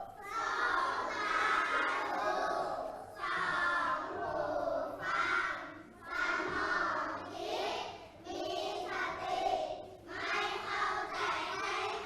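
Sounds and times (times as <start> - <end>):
children chanting in unison: 0.0 - 12.0.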